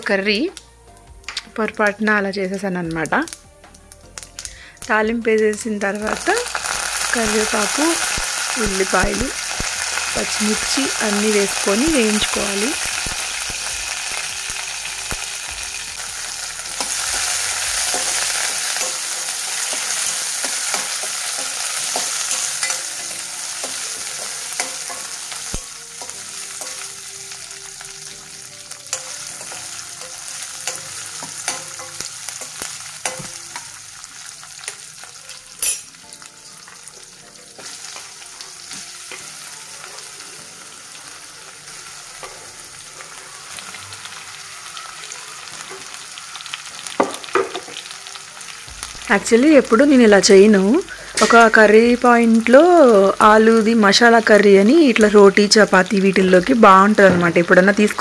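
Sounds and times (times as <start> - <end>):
hot oil sizzling: 0.0 - 58.0.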